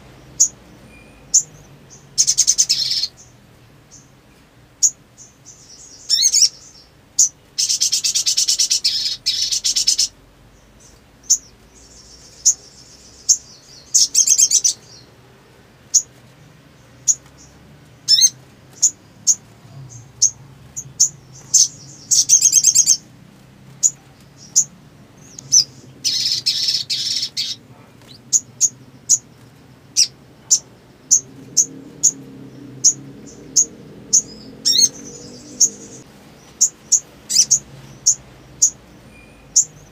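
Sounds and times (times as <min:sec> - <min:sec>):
bird chirping and trilling: 0:00.0 - 0:04.2, 0:04.8 - 0:15.2, 0:15.8 - 0:16.2, 0:16.8 - 0:23.1, 0:23.7 - 0:39.9.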